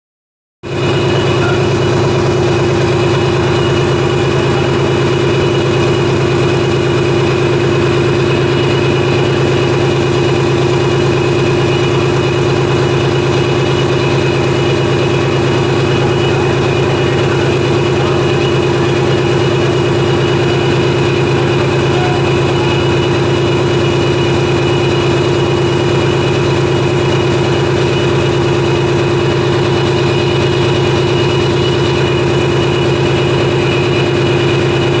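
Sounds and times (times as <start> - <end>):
ship diesel engine running: 0.6 - 35.0.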